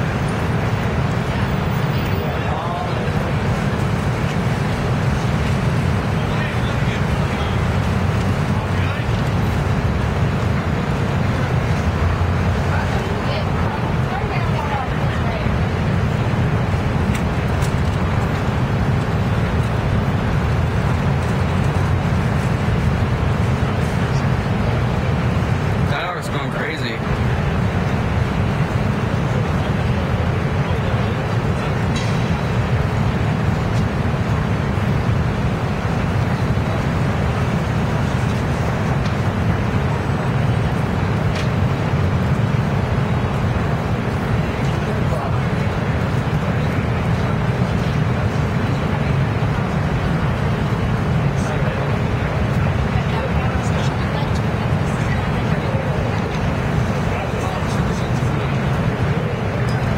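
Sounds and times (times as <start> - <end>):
city traffic rumble: 0.0 - 59.9.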